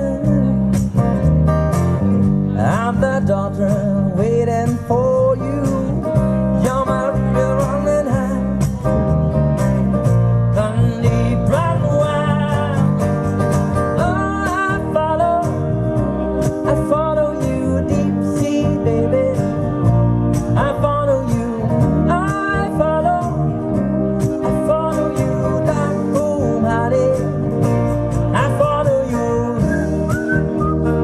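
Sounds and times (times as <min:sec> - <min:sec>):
acoustic guitars strummed: 0:00.0 - 0:31.0.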